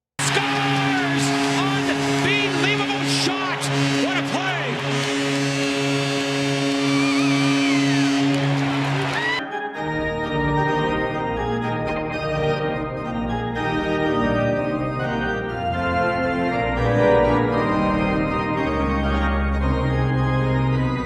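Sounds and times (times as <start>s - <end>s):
organ music: 0.2s - 21.0s.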